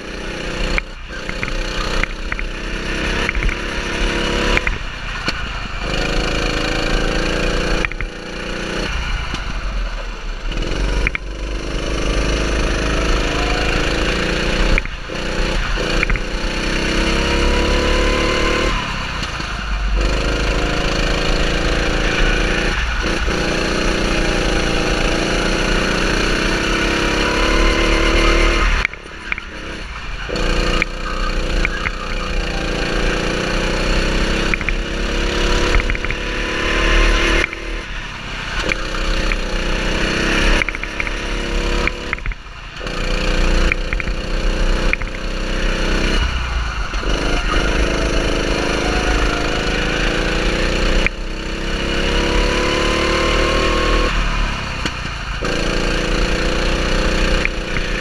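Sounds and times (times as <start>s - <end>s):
go-kart engine accelerating: 0.0s - 58.0s.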